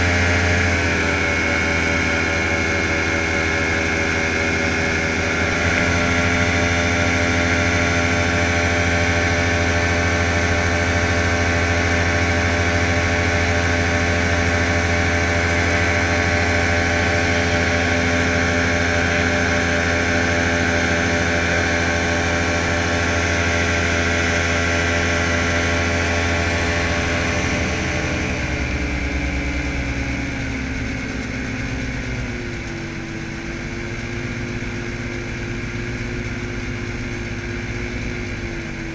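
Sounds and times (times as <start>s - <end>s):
light aircraft engine and propeller droning: 0.0s - 38.9s.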